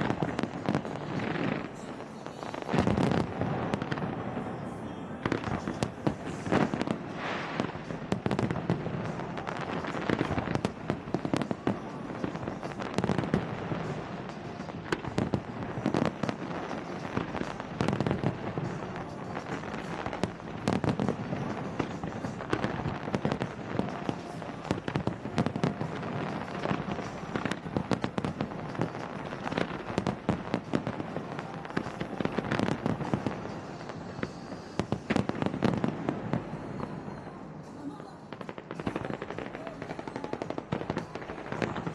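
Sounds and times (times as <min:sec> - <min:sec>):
fireworks bursts and crackling: 0:00.0 - 0:41.9.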